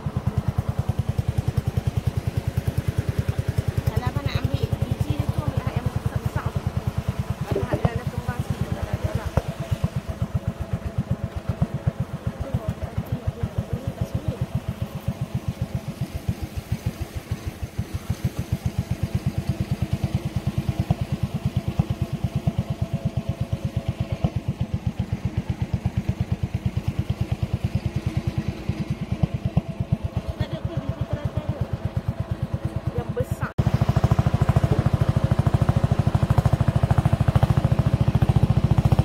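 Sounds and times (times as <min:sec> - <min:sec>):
boat engine chugging: 0:00.0 - 0:39.0.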